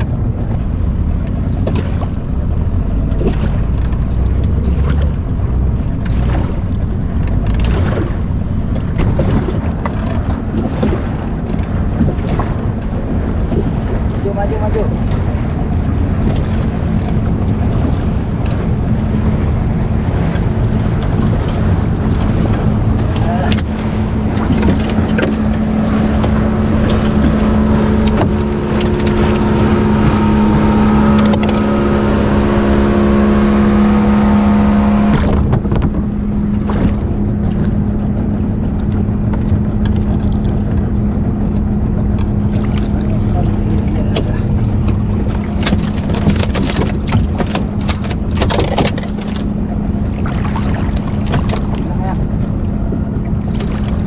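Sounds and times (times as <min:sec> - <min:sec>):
boat motor droning: 0:00.0 - 0:54.0.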